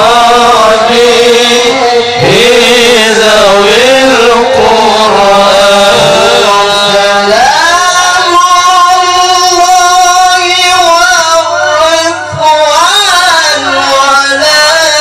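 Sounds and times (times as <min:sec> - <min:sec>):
man chanting into microphone: 0:00.0 - 0:15.0.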